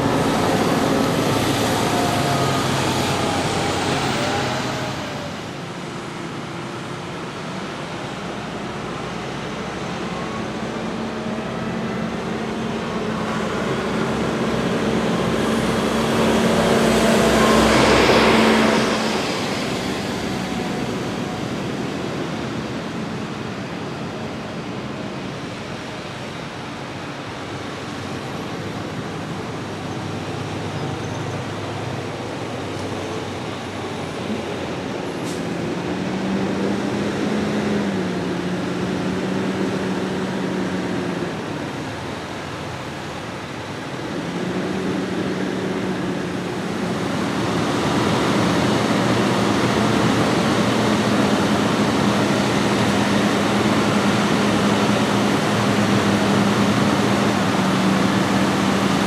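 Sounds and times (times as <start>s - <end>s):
diesel farm machinery droning: 0.0s - 59.0s.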